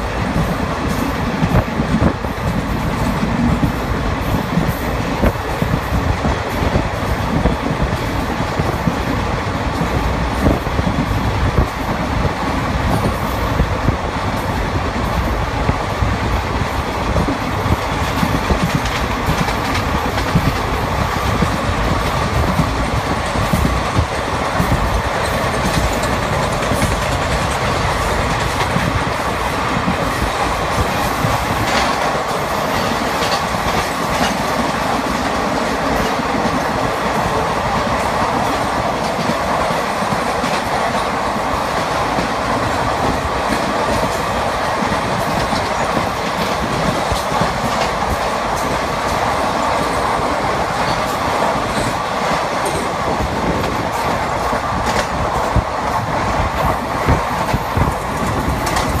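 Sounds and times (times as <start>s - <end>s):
sharp track clacks: 0.0s - 59.0s
train wheels rumbling on rails: 0.0s - 59.0s.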